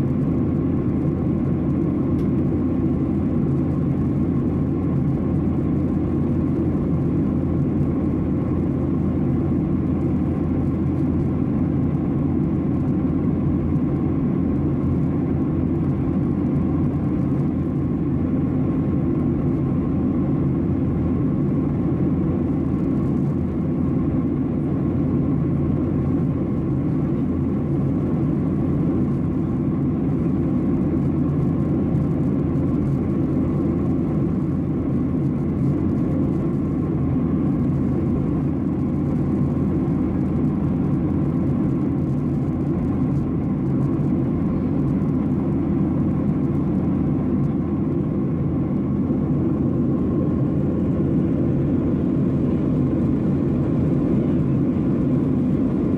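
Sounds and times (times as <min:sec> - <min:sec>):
jet engines and airflow rumble: 0:00.0 - 0:55.9.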